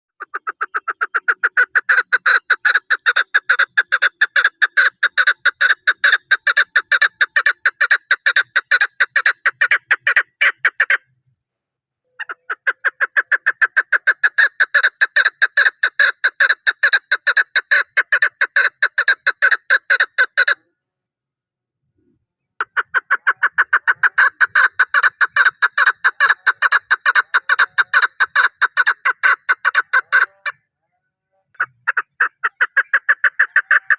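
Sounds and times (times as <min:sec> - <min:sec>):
partridge clucking calls: 0:00.1 - 0:11.1, 0:12.1 - 0:20.6, 0:22.6 - 0:30.6, 0:31.5 - 0:33.9.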